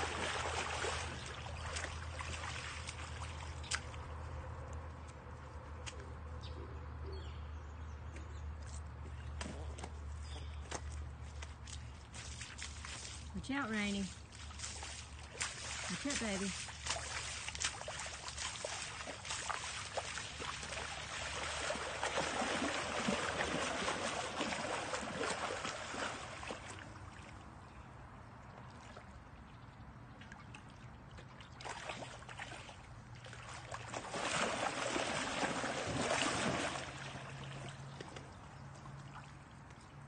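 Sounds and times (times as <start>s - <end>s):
dog wading through water: 0.0s - 6.4s, 9.1s - 40.0s.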